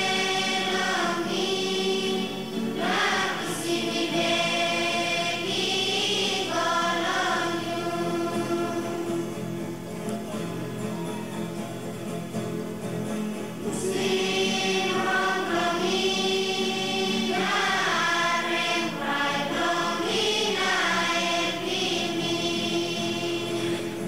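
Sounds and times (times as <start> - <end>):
choir singing: 0.0 - 9.5, 13.6 - 24.0.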